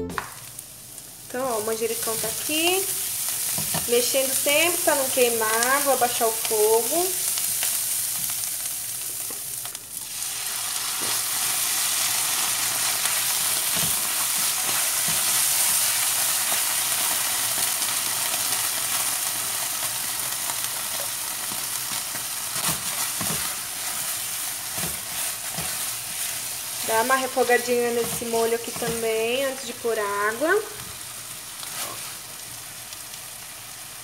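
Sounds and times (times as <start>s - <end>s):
food sizzling in a frying pan: 0.2s - 34.0s.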